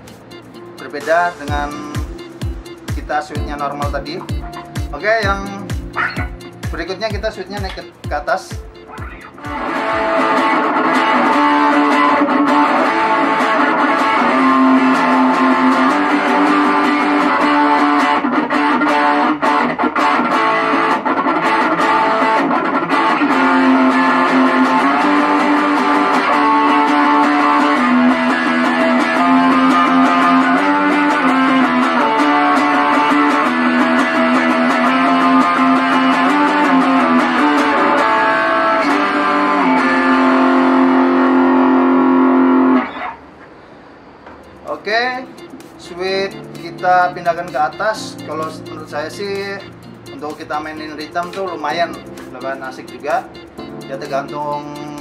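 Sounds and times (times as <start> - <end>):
electric guitar with light distortion: 0.0 - 55.0.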